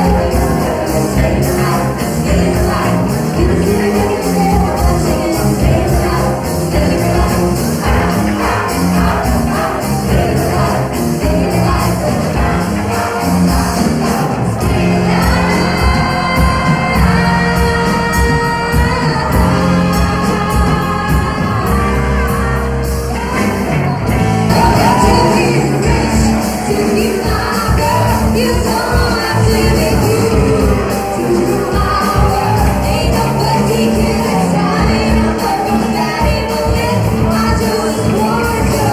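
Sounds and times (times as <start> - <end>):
live band playing disco-funk: 0.0 - 38.9.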